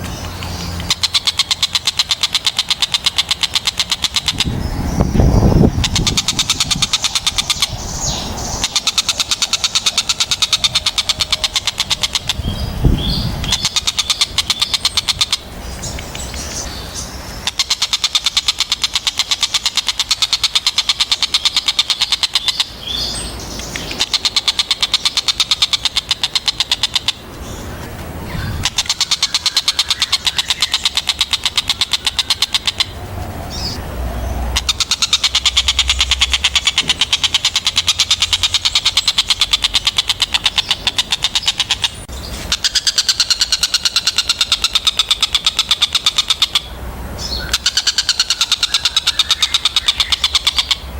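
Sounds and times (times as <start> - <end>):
kingfisher harsh chattering call: 0.0 - 15.5, 17.4 - 27.6, 28.3 - 33.8, 34.4 - 50.9.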